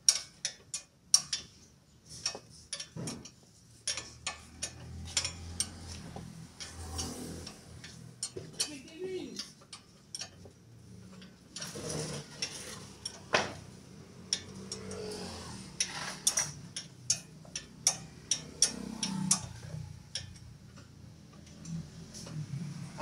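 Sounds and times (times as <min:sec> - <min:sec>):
metallic clicks of hand tools: 0:00.0 - 0:22.4.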